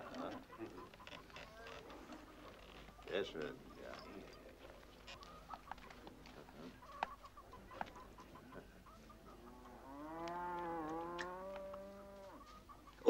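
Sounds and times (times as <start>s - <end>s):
farm animal calls: 0.0s - 13.0s
long steady animal call: 0.0s - 13.0s.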